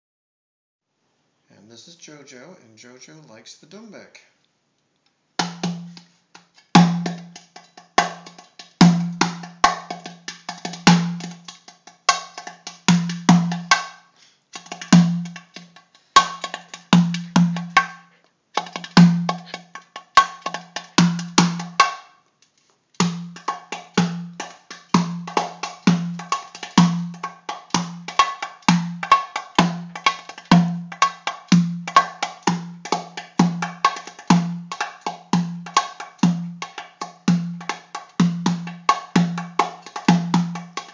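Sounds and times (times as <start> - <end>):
hand drum rhythm: 5.4 - 22.1, 23.0 - 40.9.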